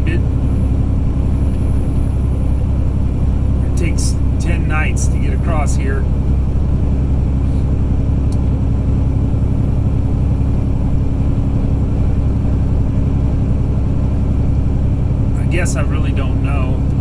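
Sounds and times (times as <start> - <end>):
road noise: 0.0 - 17.0
truck engine drone: 0.0 - 17.0.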